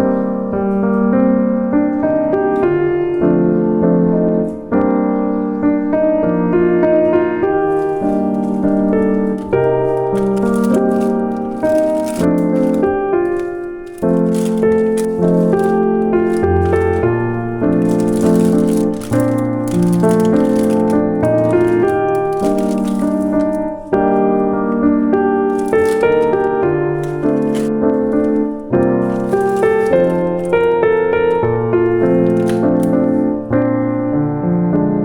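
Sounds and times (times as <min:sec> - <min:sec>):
calm solo piano melody: 0:00.0 - 0:35.0.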